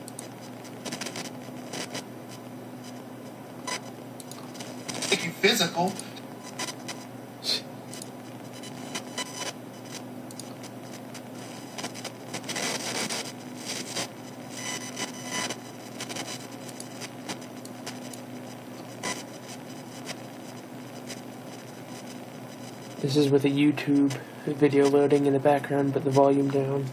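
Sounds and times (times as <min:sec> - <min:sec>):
static crackling and clicks: 0:00.0 - 0:07.2, 0:07.8 - 0:26.9
speaker electrical hum: 0:00.0 - 0:26.9.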